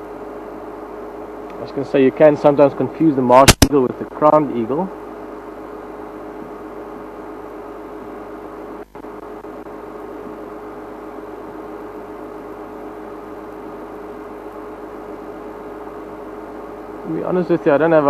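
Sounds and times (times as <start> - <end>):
constant hiss: 0.0 - 18.0
mechanical hum: 0.0 - 18.0.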